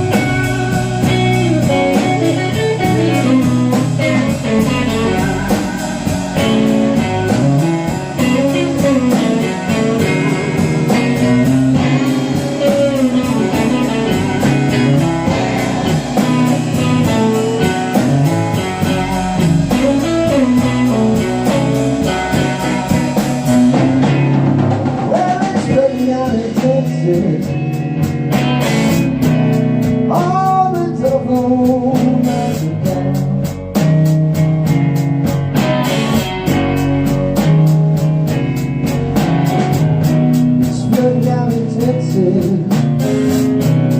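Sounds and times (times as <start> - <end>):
band playing slow blues: 0.0 - 43.9
drums with cymbal beat: 0.0 - 43.9
lead guitar bending notes: 0.0 - 43.9.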